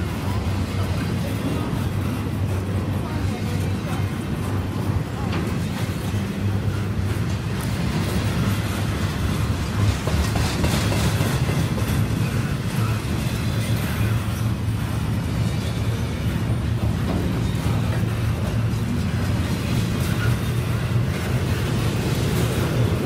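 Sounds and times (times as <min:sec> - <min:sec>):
steel wheels rumbling on rail: 0:00.0 - 0:23.0.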